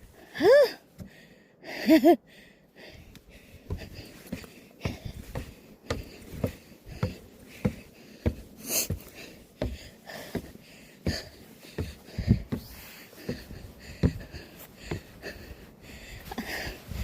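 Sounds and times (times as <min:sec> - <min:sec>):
person breathing heavily: 0:00.0 - 0:17.0
footsteps climbing stairs: 0:03.0 - 0:17.0.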